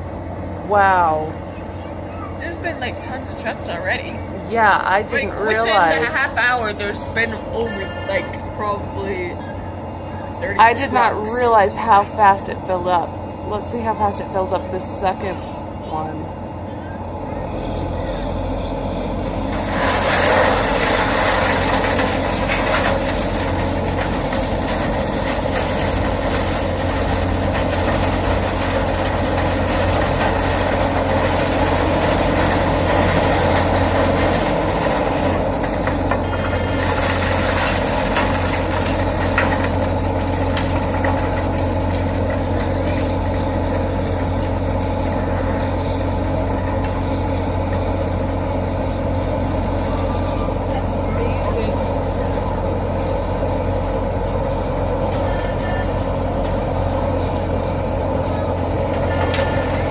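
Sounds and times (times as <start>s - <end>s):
cutting drum grinding road surface: 0.0s - 59.9s
diesel engine running: 0.0s - 59.9s.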